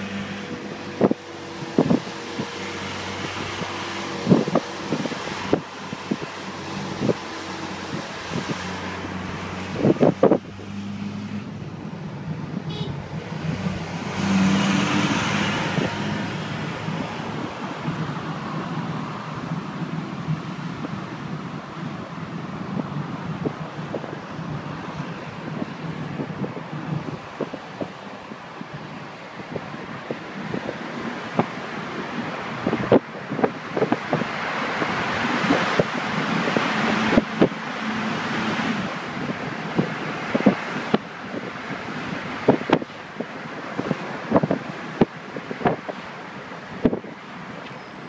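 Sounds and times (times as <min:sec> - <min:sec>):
car engine hum: 0:00.0 - 0:48.0
road noise: 0:00.0 - 0:48.0.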